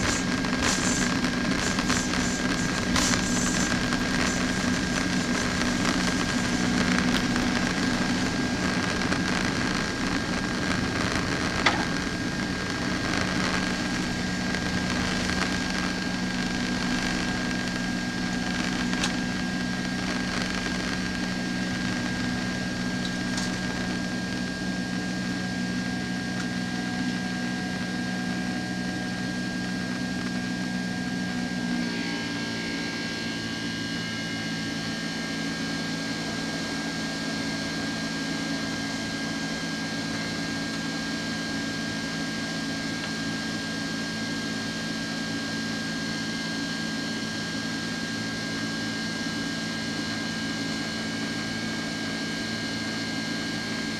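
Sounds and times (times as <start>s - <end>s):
jet engines droning: 0.0s - 53.9s.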